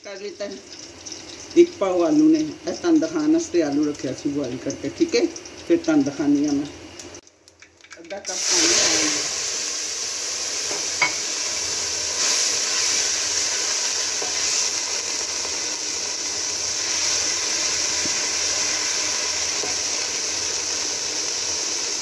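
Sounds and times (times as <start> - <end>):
oil sizzling in a pot: 0.0 - 22.0.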